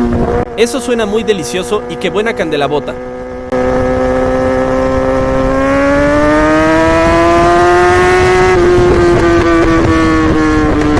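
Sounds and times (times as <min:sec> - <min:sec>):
motorcycle engine accelerating: 0:00.0 - 0:10.9.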